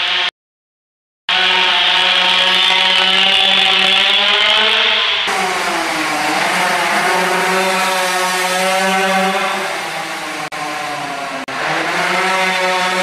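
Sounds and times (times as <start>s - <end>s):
go-kart engine high revs: 1.3s - 13.0s.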